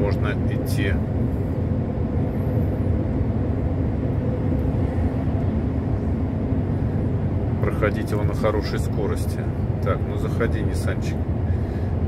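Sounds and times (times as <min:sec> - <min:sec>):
road rumble: 0:00.0 - 0:12.0
truck engine drone: 0:00.0 - 0:12.0.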